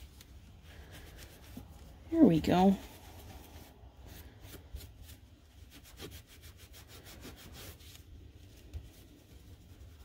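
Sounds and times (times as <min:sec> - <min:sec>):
cloth rubbing over paper card: 0:00.0 - 0:10.0.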